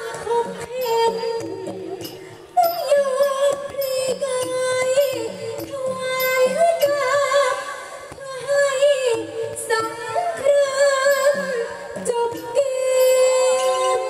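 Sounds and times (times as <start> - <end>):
instrumental accompaniment: 0.0 - 14.0
percussion strikes: 0.0 - 14.0
woman singing through microphone: 0.0 - 14.0.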